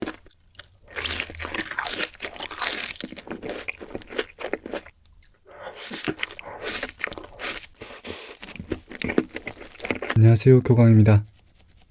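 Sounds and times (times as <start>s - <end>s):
crunchy chewing of fried food: 0.0s - 10.4s.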